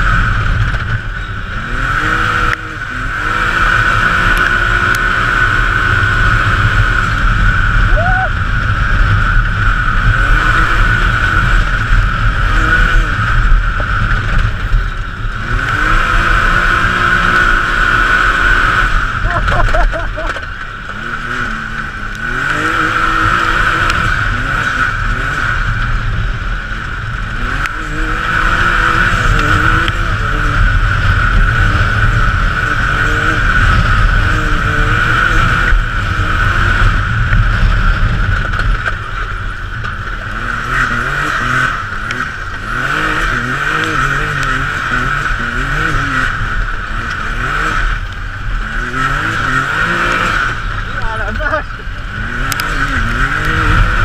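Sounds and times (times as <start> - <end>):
vehicle engine running under load: 0.0 - 54.0.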